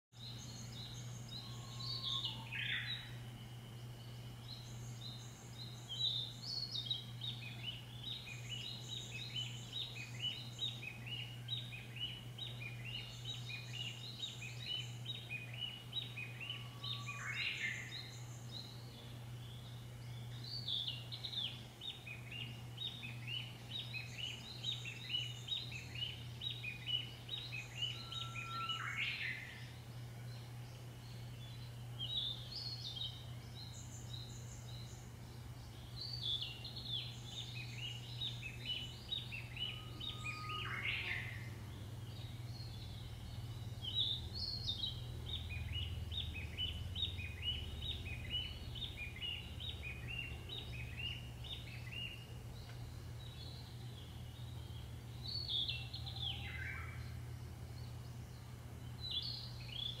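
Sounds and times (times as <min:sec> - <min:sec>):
songbirds chirping: 0:00.1 - 1:00.0
steady low hum: 0:00.2 - 1:00.0.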